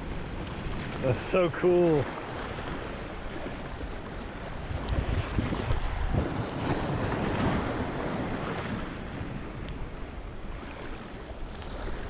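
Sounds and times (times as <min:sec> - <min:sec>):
waves washing over rocks: 0:00.0 - 0:12.0
wind buffeting microphone: 0:00.0 - 0:12.0.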